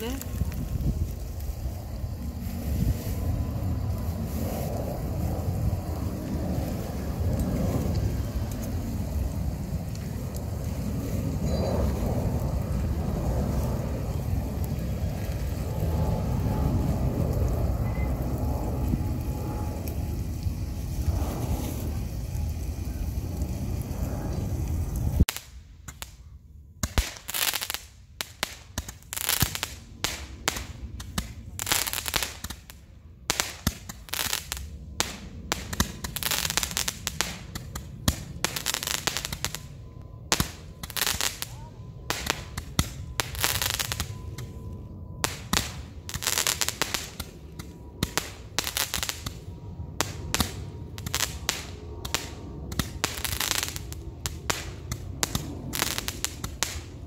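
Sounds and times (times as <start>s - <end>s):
rockets hissing: 0.0s - 26.2s, 26.8s - 39.8s, 40.4s - 44.5s, 45.2s - 57.0s
fireworks popping and crackling: 0.0s - 57.0s.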